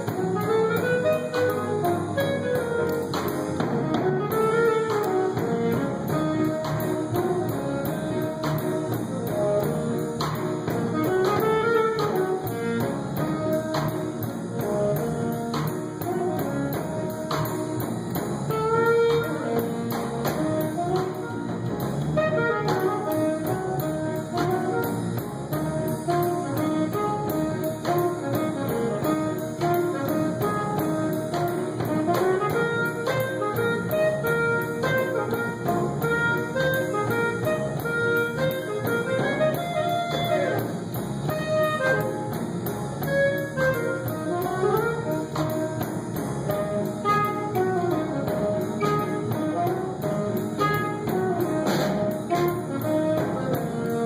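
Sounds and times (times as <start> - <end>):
drums: 0.0 - 54.0
horn melody: 0.0 - 54.0
jazz band playing: 0.0 - 54.0.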